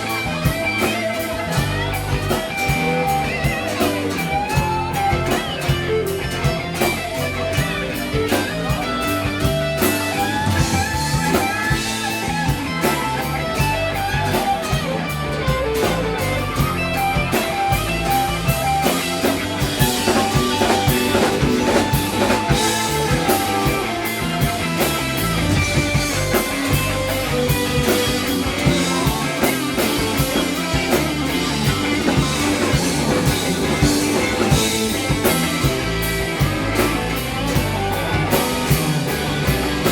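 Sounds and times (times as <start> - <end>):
drum kit beat: 0.0 - 39.9
guitar: 0.0 - 39.9.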